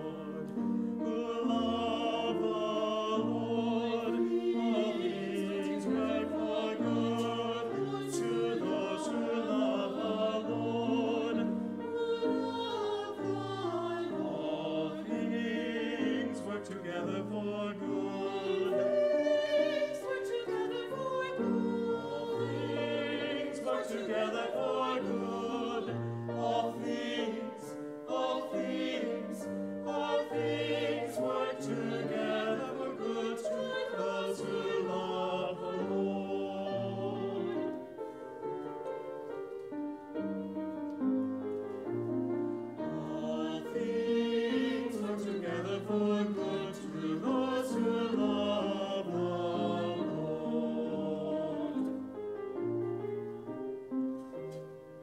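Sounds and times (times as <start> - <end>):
choir singing: 0.0 - 55.0
piano accompaniment: 0.0 - 55.0.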